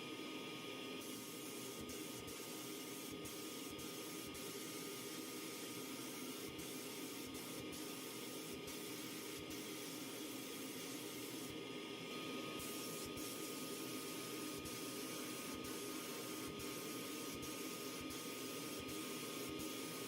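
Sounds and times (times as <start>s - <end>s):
compressed air spraying: 1.0s - 11.5s, 12.5s - 20.0s.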